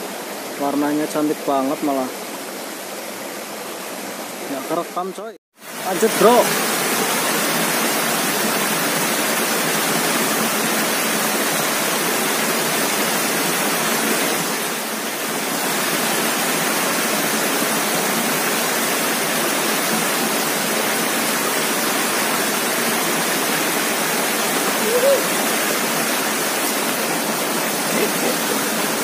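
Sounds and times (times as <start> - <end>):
water rushing over rocks: 0.0 - 29.0.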